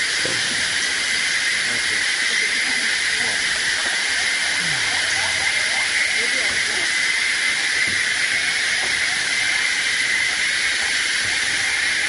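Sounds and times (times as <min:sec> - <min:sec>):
jungle insects droning: 0:00.0 - 0:12.0.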